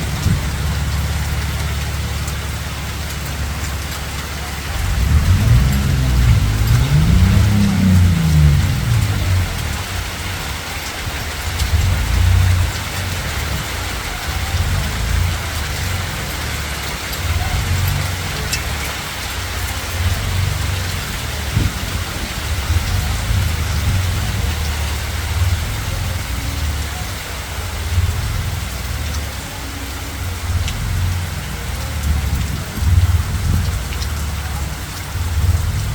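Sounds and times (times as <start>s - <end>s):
hail and rain hissing: 0.0s - 35.9s
hailstones ticking: 0.0s - 35.9s
low rumble: 0.0s - 35.9s.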